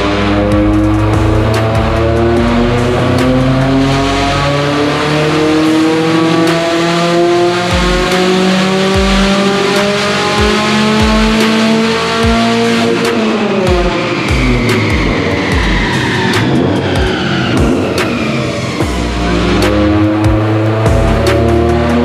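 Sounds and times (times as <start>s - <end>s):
car engine at full throttle: 0.0s - 22.0s.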